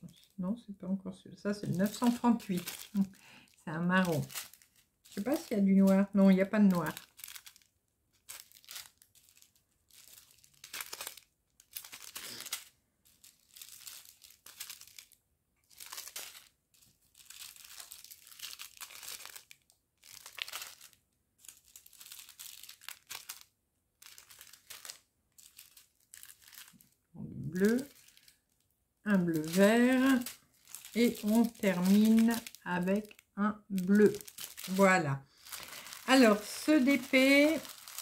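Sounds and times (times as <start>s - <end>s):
plastic sachets crinkling: 0.0s - 0.4s, 1.5s - 38.0s.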